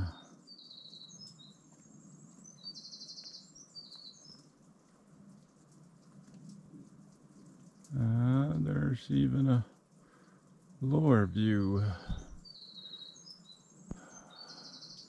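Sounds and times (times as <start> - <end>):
songbird singing faintly: 0.0 - 15.0.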